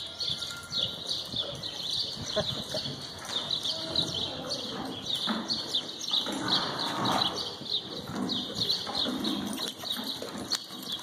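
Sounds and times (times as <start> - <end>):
horse walking in sand: 0.0 - 11.0
small birds chirping: 0.0 - 11.0.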